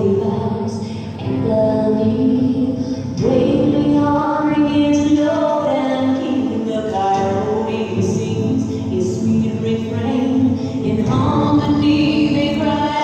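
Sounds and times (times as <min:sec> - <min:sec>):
music with singing voices: 0:00.0 - 0:13.0.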